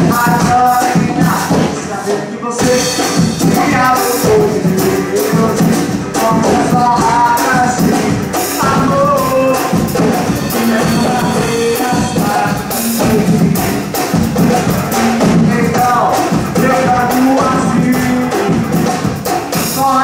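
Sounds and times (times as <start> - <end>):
drum kit: 0.0 - 20.0
man singing into a microphone: 0.0 - 20.0
hand percussion: 2.6 - 20.0.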